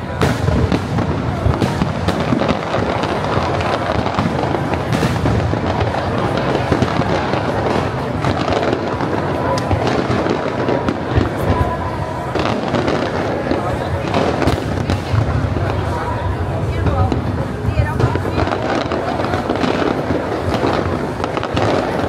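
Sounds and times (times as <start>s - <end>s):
fireworks bangs and crackles: 0.0s - 22.0s
sharp firework report: 0.0s - 22.0s.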